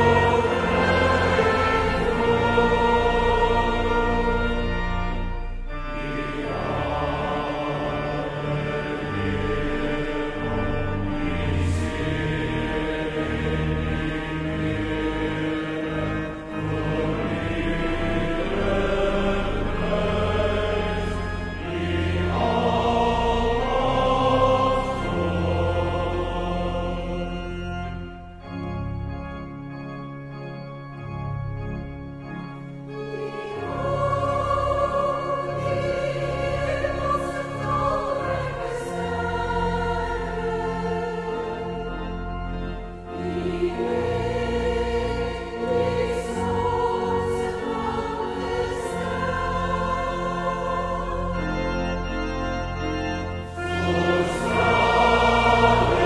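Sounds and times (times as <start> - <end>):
choir singing a hymn: 0.0 - 28.6, 32.4 - 56.0.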